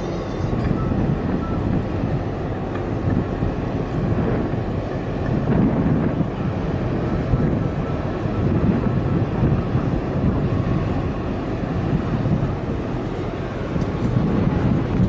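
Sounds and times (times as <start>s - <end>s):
ship engine drone: 0.0s - 15.0s
wind buffeting microphone: 0.0s - 15.0s.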